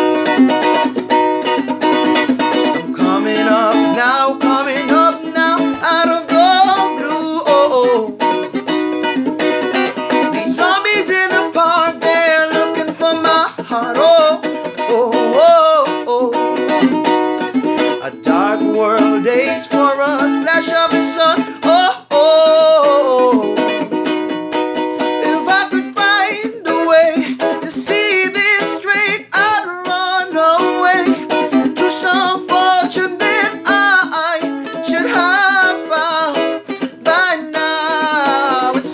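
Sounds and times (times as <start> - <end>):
plucked strings music: 0.0 - 38.9.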